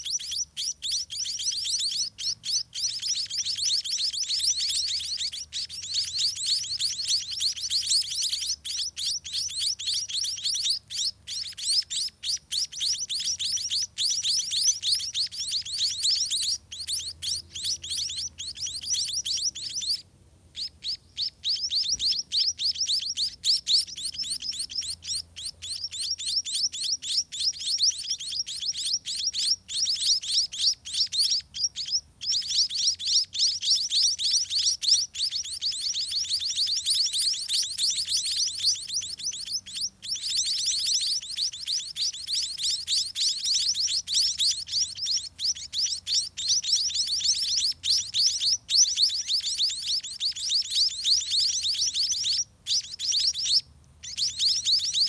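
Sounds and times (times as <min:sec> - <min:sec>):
nestlings chirping: 0:00.0 - 0:55.0.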